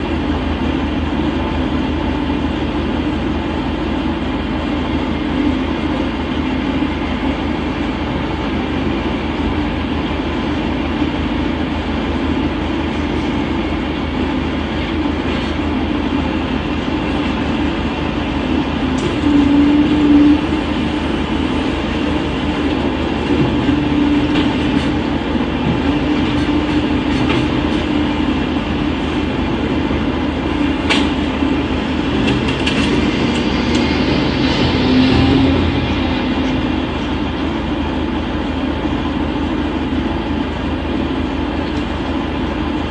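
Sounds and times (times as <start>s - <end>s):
garbage truck running: 0.0s - 42.9s
hydraulic drone: 0.0s - 42.9s.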